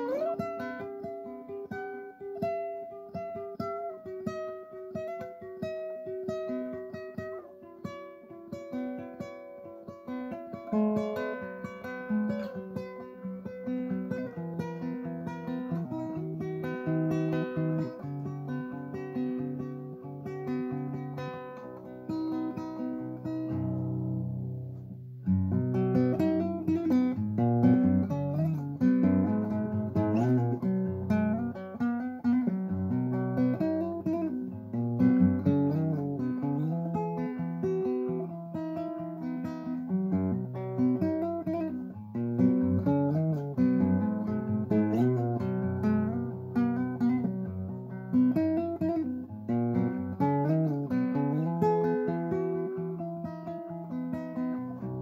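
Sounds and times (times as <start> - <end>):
classical guitar playing: 0.0 - 55.0.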